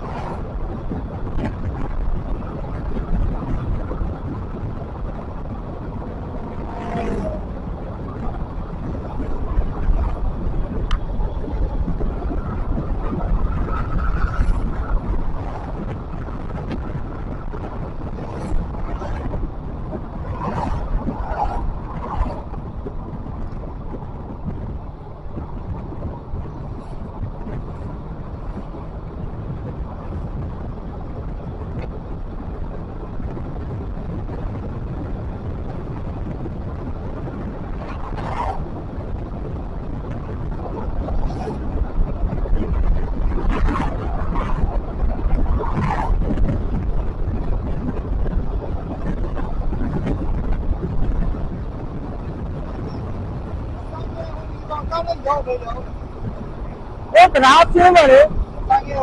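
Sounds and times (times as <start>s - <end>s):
vehicle rumble: 0.0s - 59.0s
wind noise on microphone: 0.0s - 59.0s.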